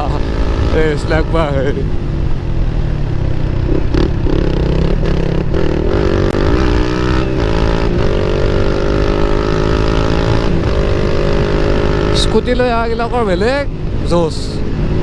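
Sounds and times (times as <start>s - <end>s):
motorcycle exhaust note: 0.0s - 13.8s.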